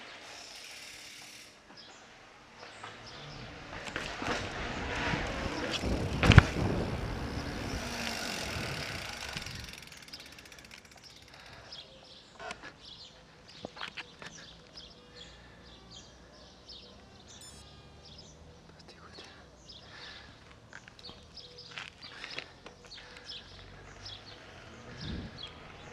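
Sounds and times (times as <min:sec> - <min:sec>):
bike tyres rolling on pavement: 0:00.0 - 0:15.5, 0:19.8 - 0:25.9.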